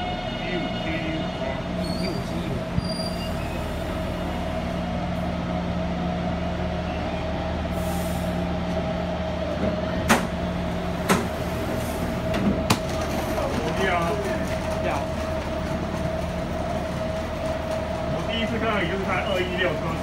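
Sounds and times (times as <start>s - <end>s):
train equipment humming: 0.0s - 20.0s.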